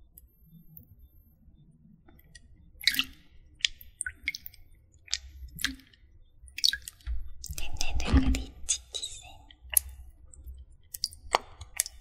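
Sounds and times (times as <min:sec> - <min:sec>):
wet squishing and dripping: 0:02.0 - 0:12.0.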